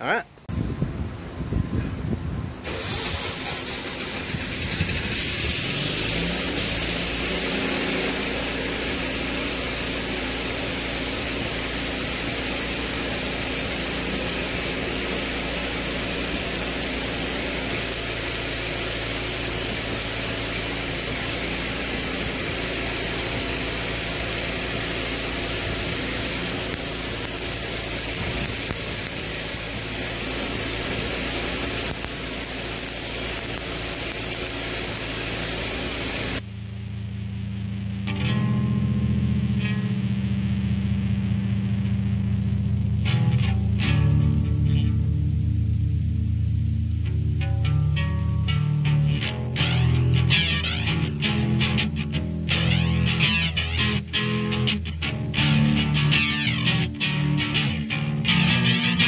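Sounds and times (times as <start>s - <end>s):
welding machine engine running: 2.6s - 59.0s.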